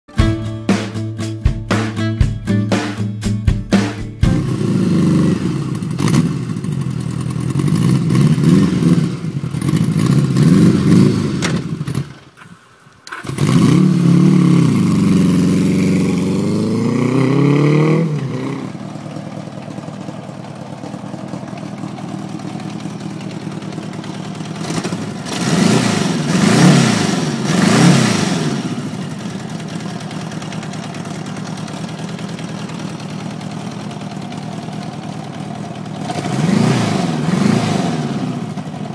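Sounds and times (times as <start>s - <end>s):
motorcycle engine revving and idling: 0.2s - 38.9s.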